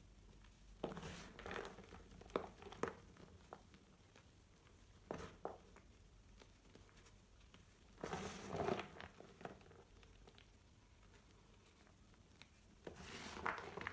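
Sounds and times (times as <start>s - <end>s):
chalk crunching and crumbling: 0.4s - 13.9s.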